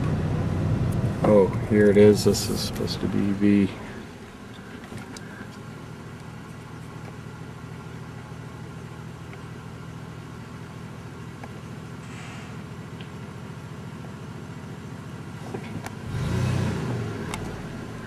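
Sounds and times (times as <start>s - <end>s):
pickup engine running at low revs: 0.0s - 18.0s.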